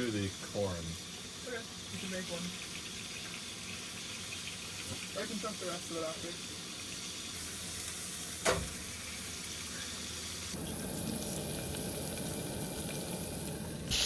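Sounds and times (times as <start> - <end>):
burger patties sizzling in a pan: 0.0 - 14.0.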